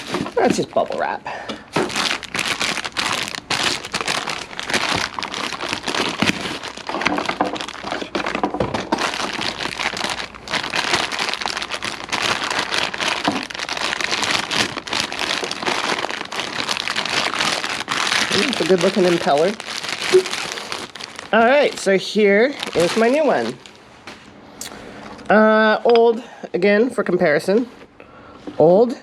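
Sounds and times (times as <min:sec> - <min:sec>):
bubble wrap crinkling: 0:00.0 - 0:24.3.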